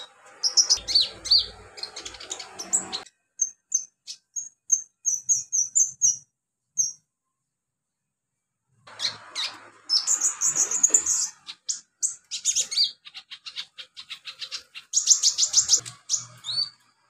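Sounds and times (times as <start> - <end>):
sunbird singing chirping trills: 0.0 - 7.0, 8.9 - 17.0.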